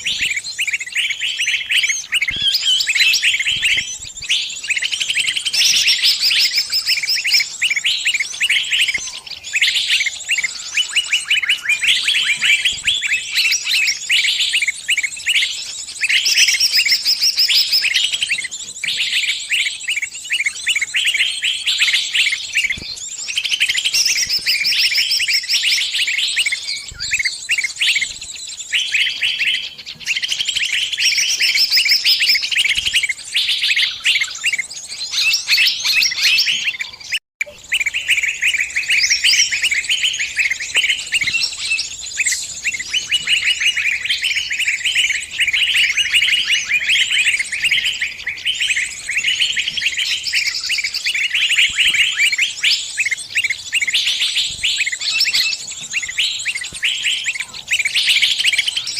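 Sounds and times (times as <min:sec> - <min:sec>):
songbird distress chirps: 0:00.0 - 0:58.9.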